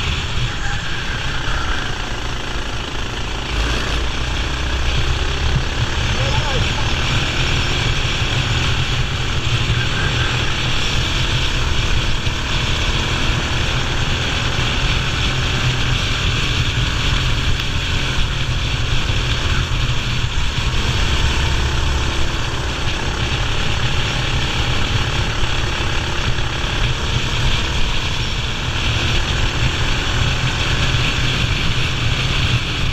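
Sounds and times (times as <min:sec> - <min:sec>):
kart engine running: 0:00.0 - 0:32.9
wind noise on microphone: 0:03.5 - 0:32.9.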